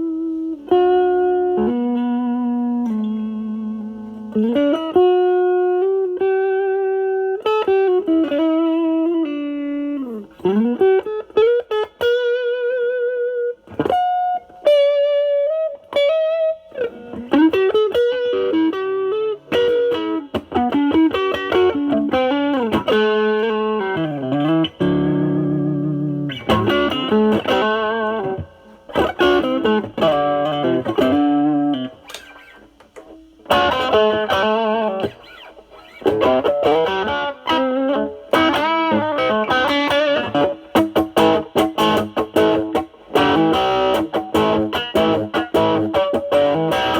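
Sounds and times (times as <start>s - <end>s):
electric guitar blues lead: 0.0s - 46.9s.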